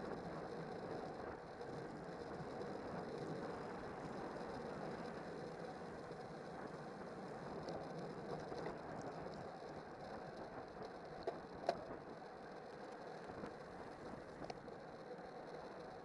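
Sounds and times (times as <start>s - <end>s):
tyres humming on asphalt: 0.0s - 16.0s.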